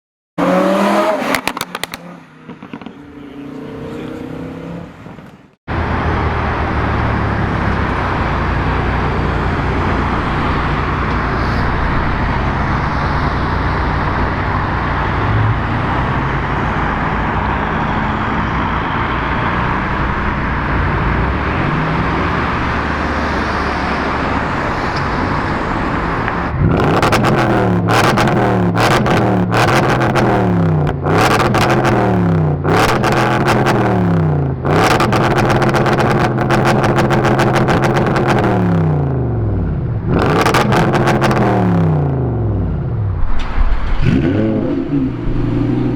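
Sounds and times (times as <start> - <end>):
car engine revving: 0.4 - 45.9.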